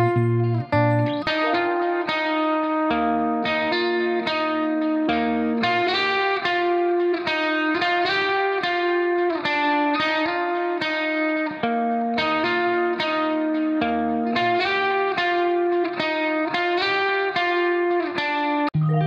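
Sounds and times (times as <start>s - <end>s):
plucked guitar melody: 0.0s - 19.0s.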